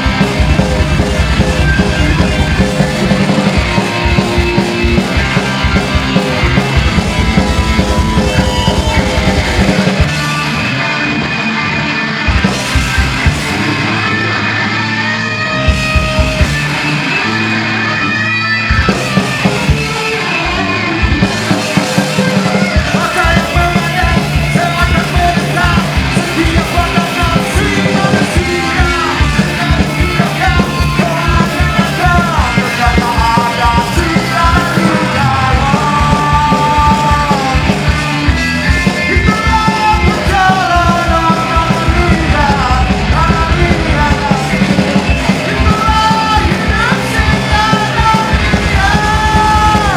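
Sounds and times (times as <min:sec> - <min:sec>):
bass guitar: 0:00.0 - 0:49.9
distorted electric guitar: 0:00.0 - 0:49.9
fast driving drums: 0:00.0 - 0:49.9.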